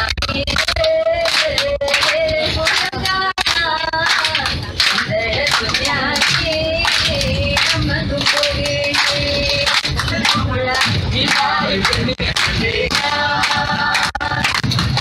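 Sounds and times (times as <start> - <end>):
hand-clapping: 0.0 - 15.0
people singing: 0.8 - 15.0.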